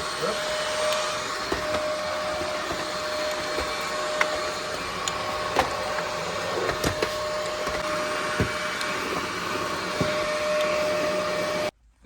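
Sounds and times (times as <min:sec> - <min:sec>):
vacuum cleaner motor whine: 0:00.0 - 0:11.8.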